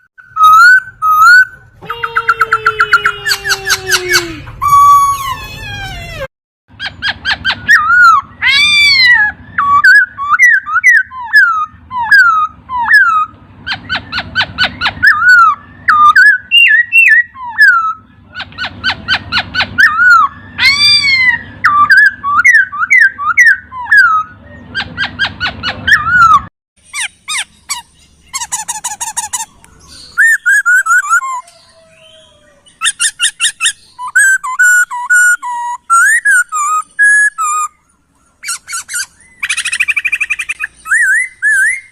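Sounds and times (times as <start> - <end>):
bird trilling and whistling: 0.0 - 41.9.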